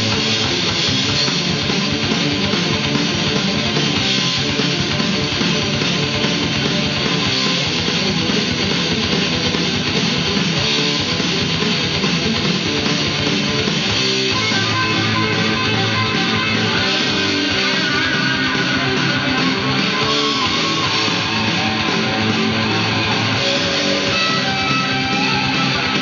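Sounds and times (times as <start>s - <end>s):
guitar rock music from vinyl: 0.0s - 26.0s.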